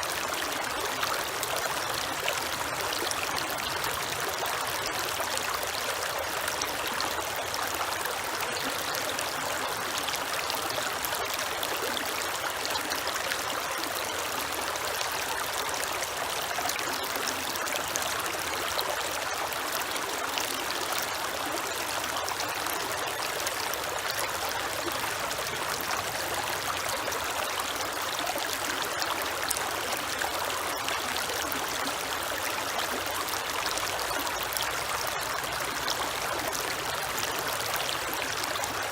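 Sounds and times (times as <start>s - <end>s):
creek water running over stones: 0.0s - 38.9s.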